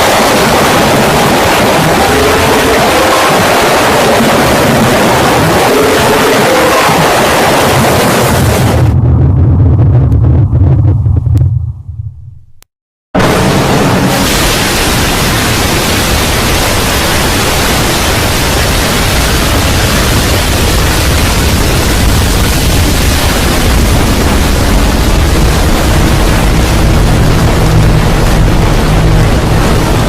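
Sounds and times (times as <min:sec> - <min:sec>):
distorted wall of noise: 0:00.0 - 0:12.6, 0:13.2 - 0:30.0
loud static-like noise: 0:00.0 - 0:12.6, 0:13.2 - 0:30.0
low hum: 0:00.0 - 0:30.0.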